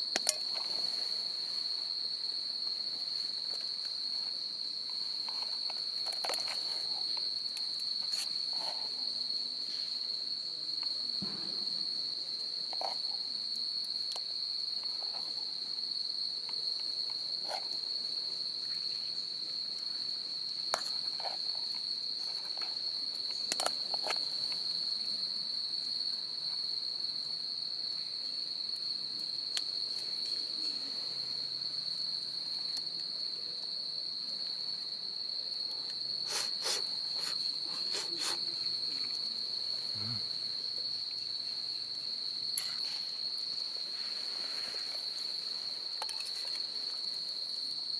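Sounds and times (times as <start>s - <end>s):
crickets trilling: 0.0s - 47.9s.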